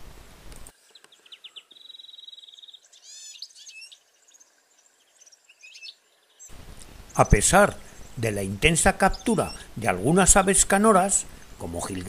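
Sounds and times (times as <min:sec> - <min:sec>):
finch singing trills: 0:01.0 - 0:04.4, 0:05.1 - 0:12.0.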